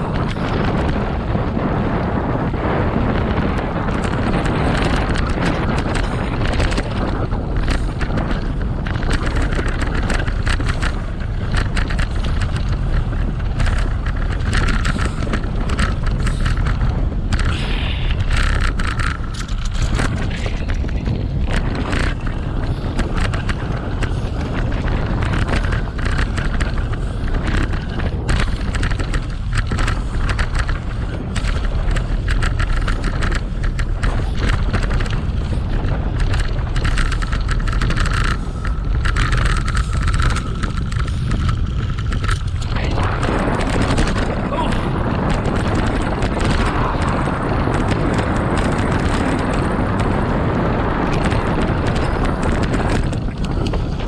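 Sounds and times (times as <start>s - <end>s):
bicycle rattling: 0.0s - 54.0s
tyre rumble on dirt: 0.0s - 54.0s
wind buffeting on microphone: 0.0s - 54.0s.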